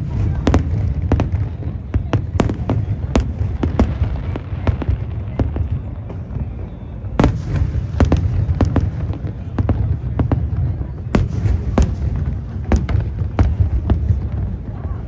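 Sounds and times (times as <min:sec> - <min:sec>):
fireworks bangs and cracks: 0:00.0 - 0:15.0
fireworks booming: 0:00.0 - 0:15.0.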